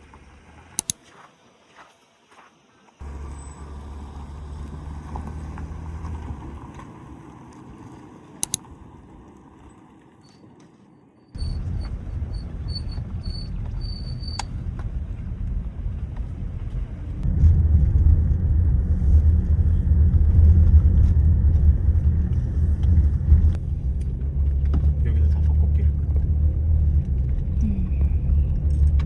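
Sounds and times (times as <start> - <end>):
car engine and road hum: 0.0 - 1.0, 3.0 - 29.0.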